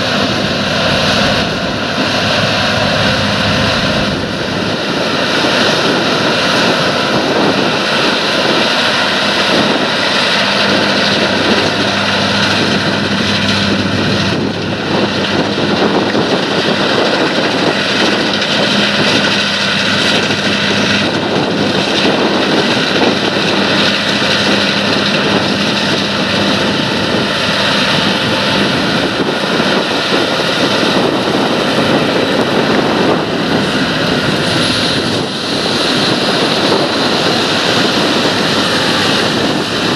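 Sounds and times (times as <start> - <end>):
combine harvester engine drone: 0.0 - 39.9
constant low hum: 0.0 - 39.9
threshing machinery clatter: 0.0 - 39.9.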